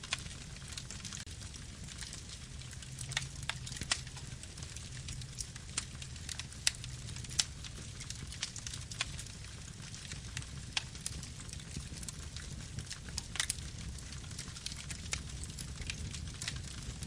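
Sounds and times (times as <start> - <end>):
burning wood crackling and popping: 0.0 - 17.0
rumble of flames: 0.0 - 17.0.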